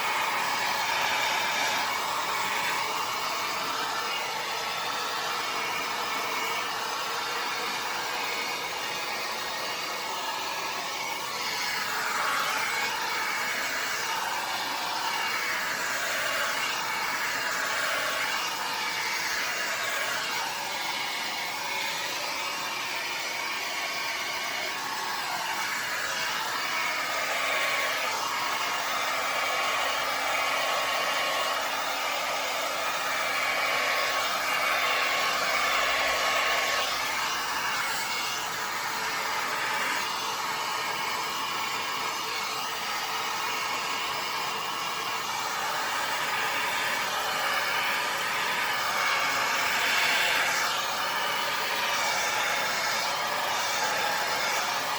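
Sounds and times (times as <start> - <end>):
hair dryer blowing: 0.0 - 54.9.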